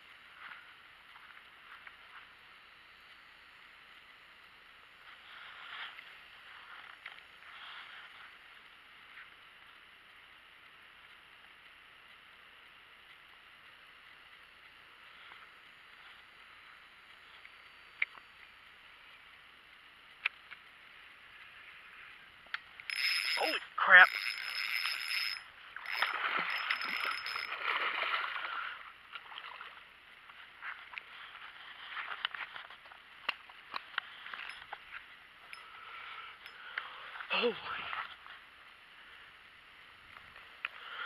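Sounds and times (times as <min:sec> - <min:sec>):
outdoor background hiss: 0:00.0 - 0:41.0.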